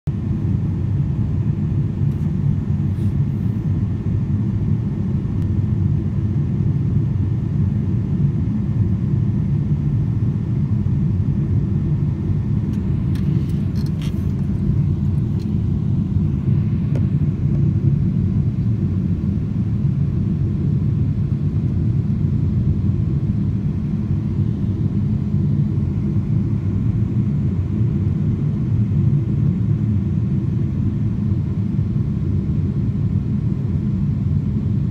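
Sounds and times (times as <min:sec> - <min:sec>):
jet airliner rumble in cabin: 0:00.1 - 0:34.9.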